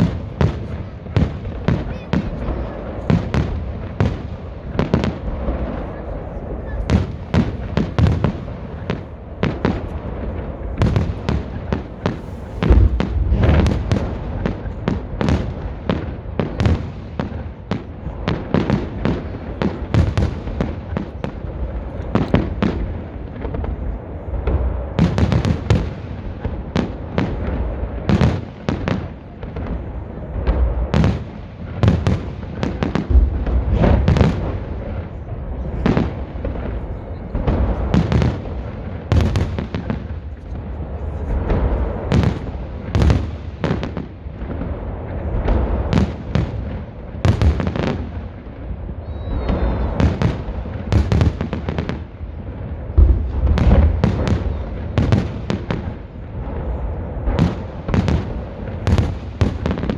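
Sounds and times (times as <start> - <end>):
firework bangs and crackles: 0.0 - 59.9
deep firework booms: 6.8 - 59.9.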